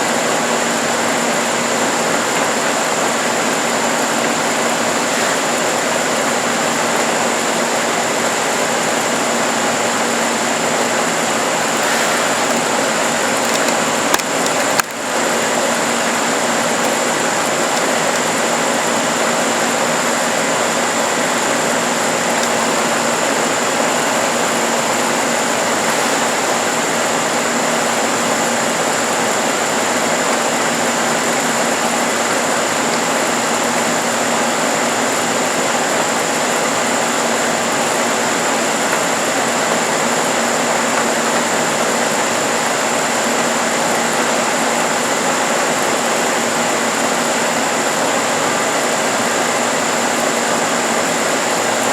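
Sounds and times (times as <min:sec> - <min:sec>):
disc sander motor whining: 0:00.0 - 0:49.5.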